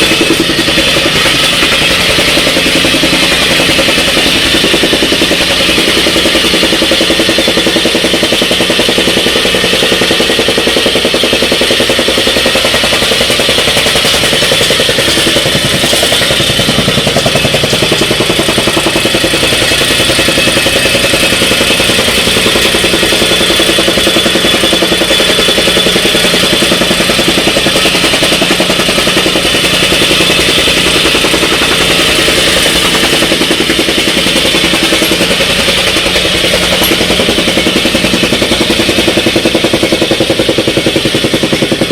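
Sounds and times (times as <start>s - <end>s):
machine drone: 0.0s - 41.9s
rammer foot pounding ground: 0.0s - 41.9s.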